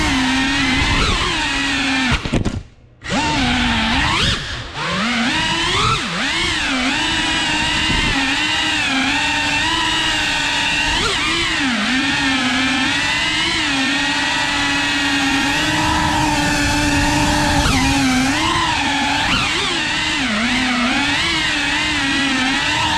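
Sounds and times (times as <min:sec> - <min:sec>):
drone motors buzzing whine: 0:00.0 - 0:22.9.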